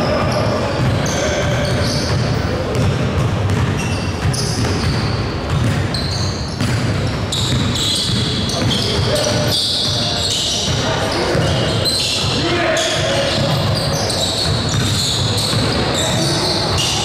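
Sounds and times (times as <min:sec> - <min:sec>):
players' voices: 0:00.0 - 0:04.5, 0:07.8 - 0:17.0
basketball bouncing on gym floor: 0:00.0 - 0:17.0.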